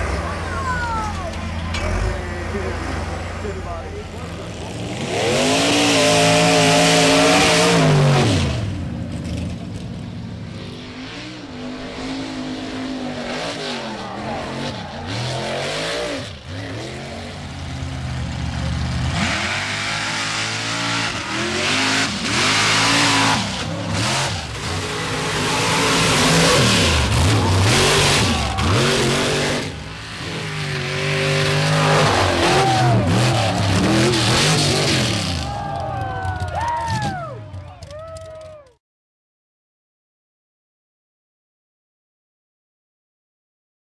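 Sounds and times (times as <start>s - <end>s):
truck engines revving: 0.0s - 38.7s.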